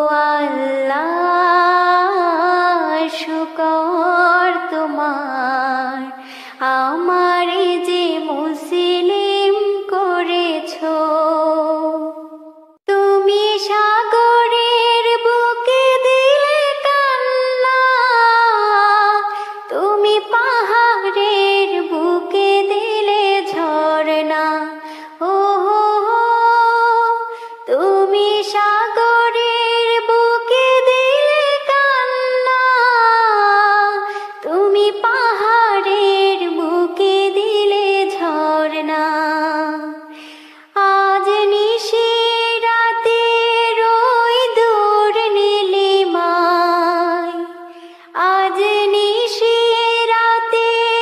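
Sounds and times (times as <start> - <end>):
woman singing: 0.0 - 51.0.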